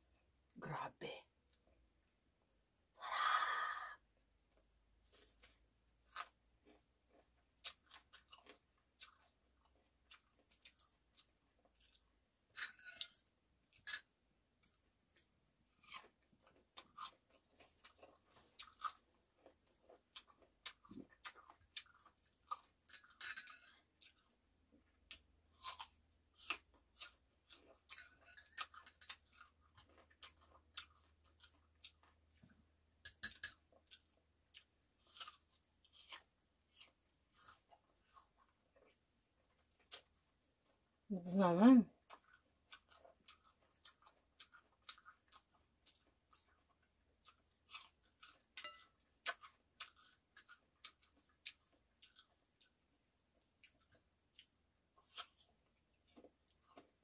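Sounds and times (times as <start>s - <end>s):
crisp chewing: 5.0s - 12.2s, 14.6s - 32.6s, 33.7s - 40.9s, 42.0s - 57.0s.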